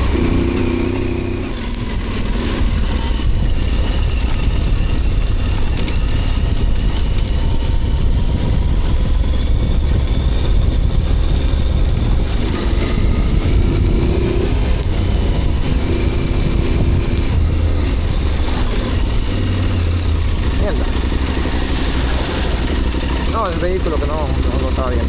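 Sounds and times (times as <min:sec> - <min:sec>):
motorcycle engine drone: 0:00.0 - 0:25.0
road rumble: 0:00.0 - 0:25.0
wind on microphone: 0:00.0 - 0:25.0.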